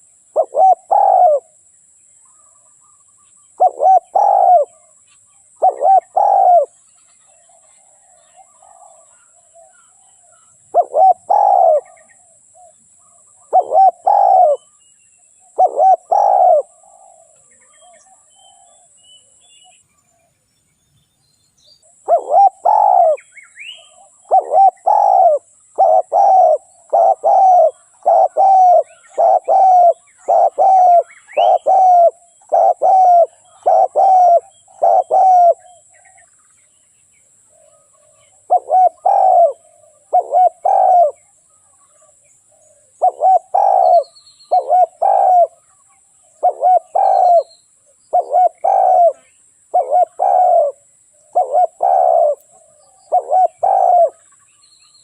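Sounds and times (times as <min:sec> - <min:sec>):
dove cooing: 0:00.0 - 0:01.6, 0:03.5 - 0:06.8, 0:07.4 - 0:14.7, 0:15.4 - 0:19.0, 0:21.9 - 0:36.2, 0:37.5 - 0:54.4.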